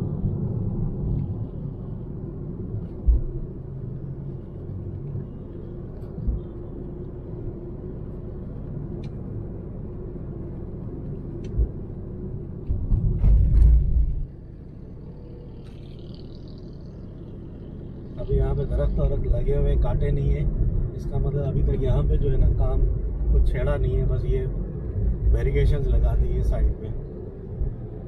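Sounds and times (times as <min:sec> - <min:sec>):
car engine and tyre rumble: 0:00.0 - 0:28.0
rough road noise: 0:00.0 - 0:28.0.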